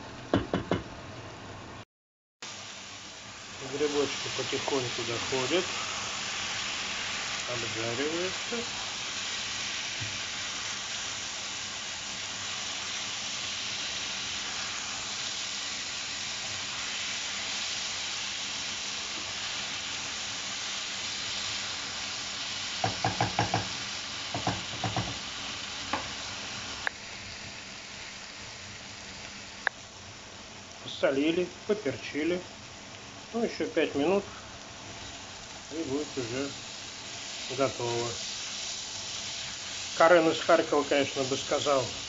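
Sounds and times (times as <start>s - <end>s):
mushrooms sizzling in a frying pan: 2.4s - 42.0s.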